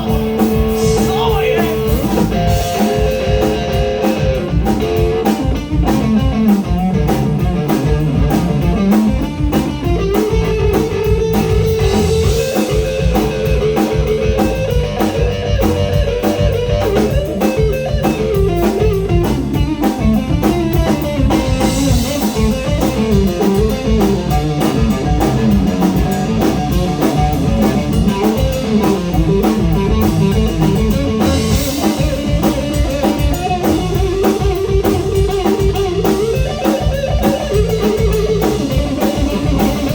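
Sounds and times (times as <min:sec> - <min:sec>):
bass guitar: 0:00.0 - 0:39.9
drum kit: 0:00.0 - 0:39.9
electric guitar lead lines: 0:00.0 - 0:39.9.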